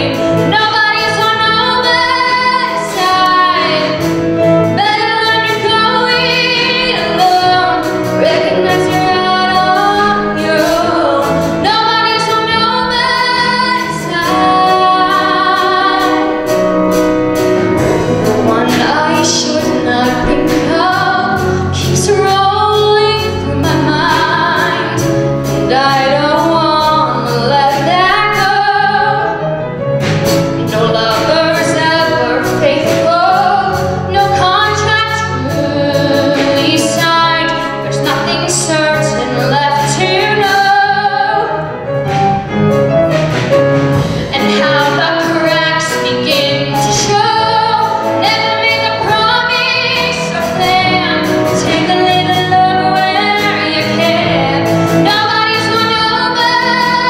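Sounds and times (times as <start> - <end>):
woman singing into microphone: 0.0 - 4.1, 4.7 - 16.6, 17.8 - 29.4, 30.6 - 41.8, 44.0 - 57.0
instrumental accompaniment: 0.0 - 57.0.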